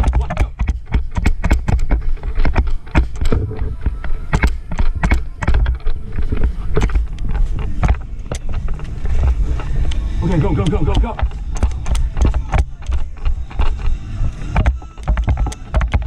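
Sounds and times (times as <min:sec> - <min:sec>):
low rumble of movement: 0:00.0 - 0:16.0.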